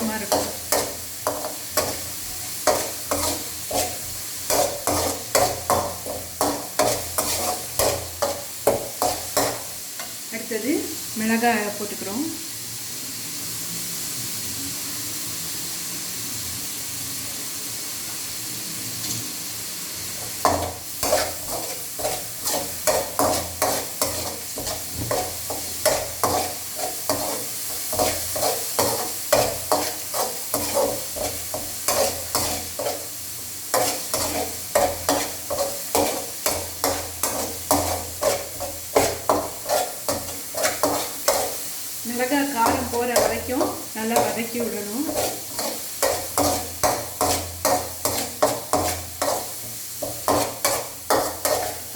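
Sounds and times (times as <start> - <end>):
spoon scraping a frying pan: 0.0 - 10.2, 20.2 - 51.9
onions sizzling in hot oil: 0.0 - 51.9.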